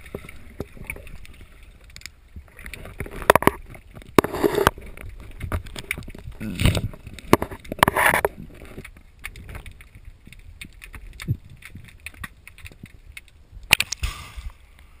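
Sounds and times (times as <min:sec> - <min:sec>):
water splashing: 0:00.0 - 0:14.7
faint ticking and crackling underwater: 0:00.0 - 0:15.0.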